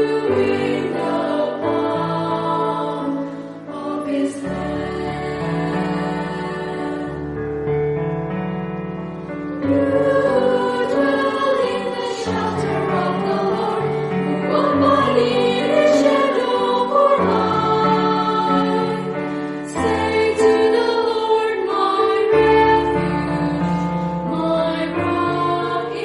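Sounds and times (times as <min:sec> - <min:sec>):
choir singing: 0:00.0 - 0:07.4, 0:09.6 - 0:26.0.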